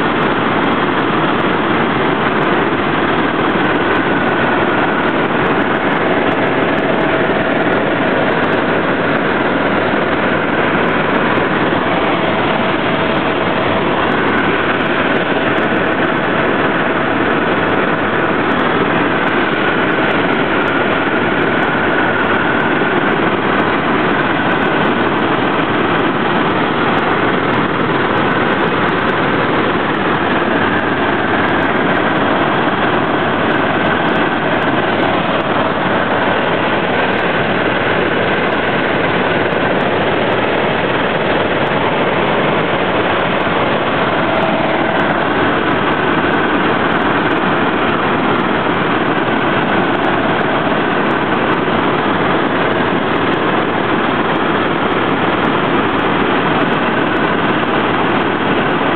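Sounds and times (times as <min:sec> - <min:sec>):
helicopter engine and rotor noise: 0:00.0 - 0:58.9.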